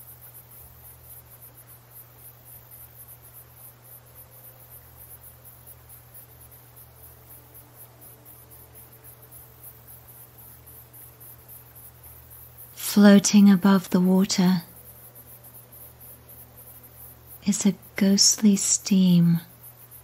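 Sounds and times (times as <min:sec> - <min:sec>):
insects chirping: 0:00.0 - 0:20.0
low steady hum: 0:00.0 - 0:20.0.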